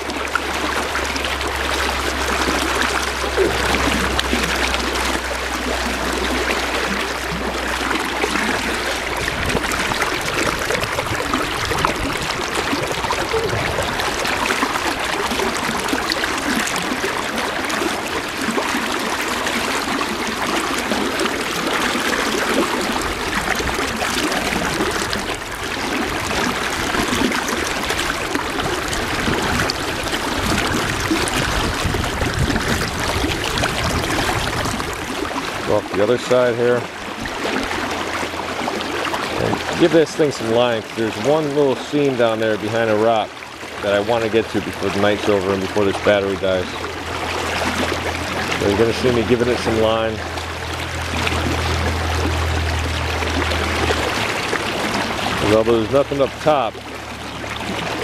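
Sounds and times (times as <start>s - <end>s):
low steady hum: 0.0s - 58.0s
river current rushing: 0.0s - 58.0s.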